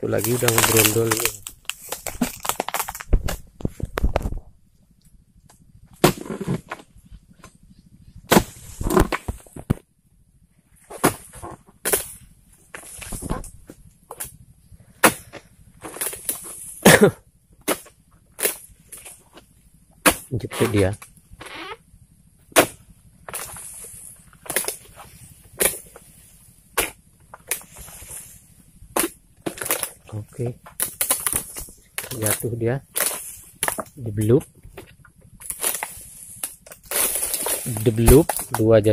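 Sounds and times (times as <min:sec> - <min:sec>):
blade chopping into palm fronds: 0:00.0 - 0:04.4, 0:06.0 - 0:06.9, 0:08.3 - 0:09.8, 0:10.9 - 0:14.4, 0:15.0 - 0:19.2, 0:20.0 - 0:21.5, 0:22.5 - 0:38.7.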